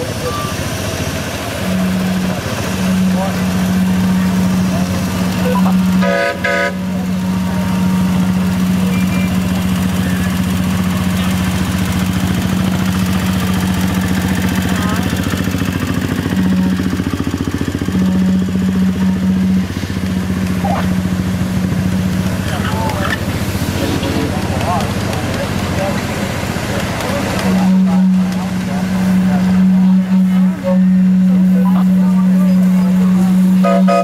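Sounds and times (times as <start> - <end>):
small locomotive engine running: 0.0 - 34.0.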